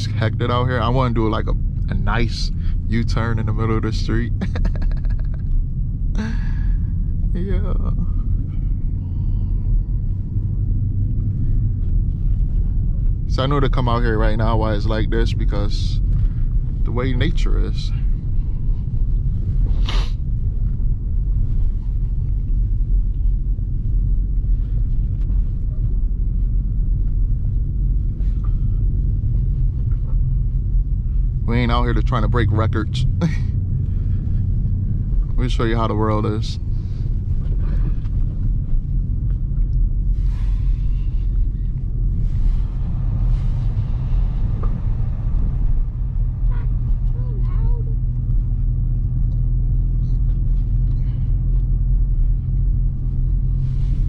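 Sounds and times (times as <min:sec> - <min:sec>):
car engine rumbling while driving: 0:00.0 - 0:54.0.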